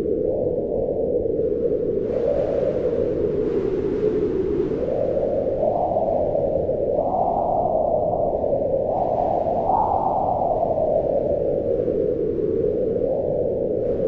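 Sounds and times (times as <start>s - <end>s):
howling wind: 0.0s - 14.0s.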